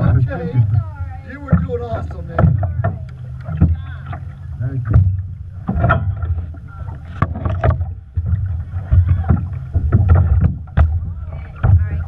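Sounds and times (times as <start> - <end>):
boat engine idling: 0.0 - 12.0
wind buffeting microphone: 0.0 - 12.0.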